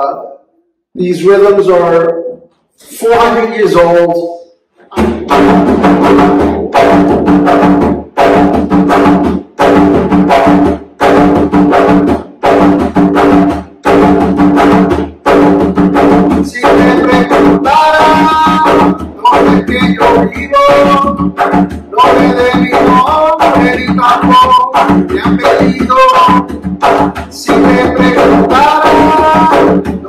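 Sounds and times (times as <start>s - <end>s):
hand drum rhythm: 4.8s - 30.0s.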